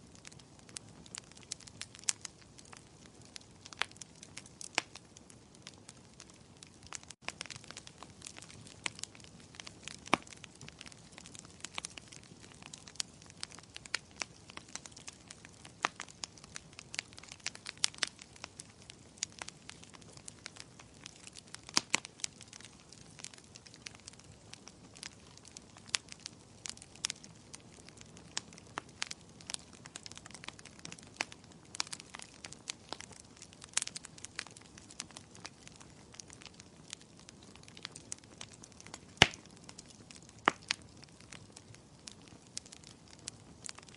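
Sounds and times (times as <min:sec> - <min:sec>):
firewood crackling and popping: 0:00.0 - 0:43.9.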